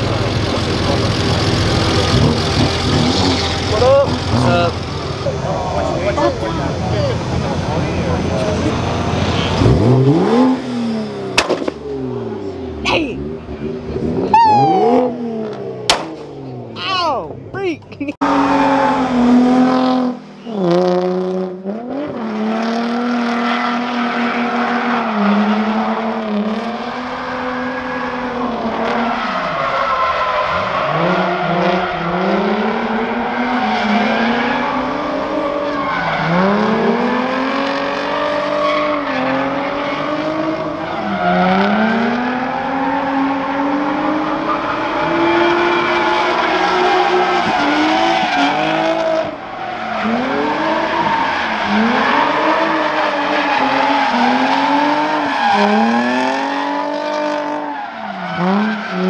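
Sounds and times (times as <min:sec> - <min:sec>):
car engine revving hard: 0:00.0 - 0:05.1, 0:07.5 - 0:16.6, 0:18.2 - 0:29.1, 0:30.5 - 0:49.4, 0:50.0 - 0:59.0.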